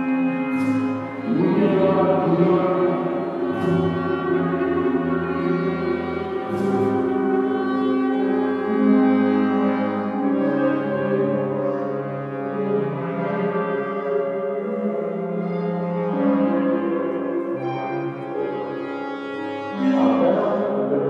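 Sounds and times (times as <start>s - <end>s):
chamber orchestra sustained chords: 0.0s - 21.0s.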